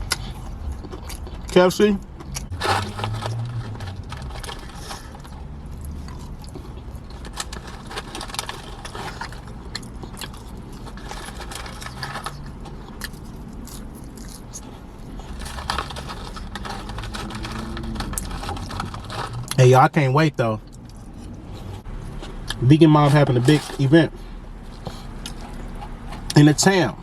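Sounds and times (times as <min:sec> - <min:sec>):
chewing crispy fried chicken: 0:00.0 - 0:19.7, 0:20.5 - 0:26.5
low background hum: 0:00.0 - 0:27.0.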